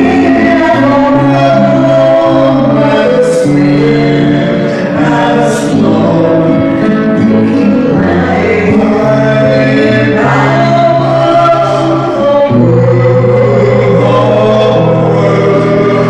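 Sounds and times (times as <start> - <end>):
acoustic guitar: 0.0 - 16.0
woman and man singing: 0.0 - 16.0.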